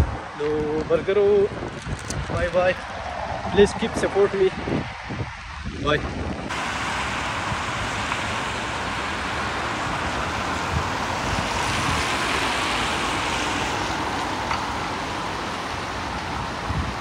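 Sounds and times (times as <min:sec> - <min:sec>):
traffic on wet road: 0:00.0 - 0:17.0
wind rumbling on microphone: 0:00.0 - 0:17.0.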